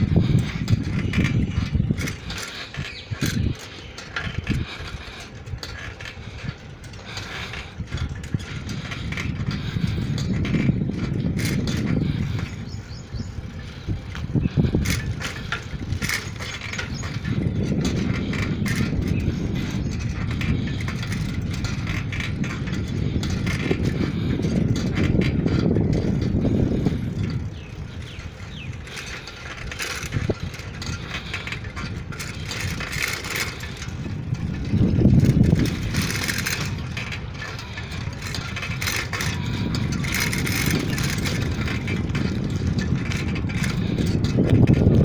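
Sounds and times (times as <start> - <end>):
bicycle chain clicks and rattles: 0.0 - 45.0
bicycle tyres rumbling on concrete: 0.0 - 45.0
wind on microphone: 0.0 - 45.0.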